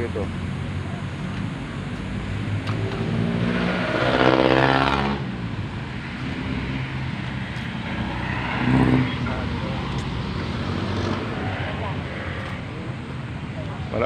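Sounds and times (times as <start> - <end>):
low rumble of street noise: 0.0 - 14.0
passing vehicle engine: 0.0 - 14.0.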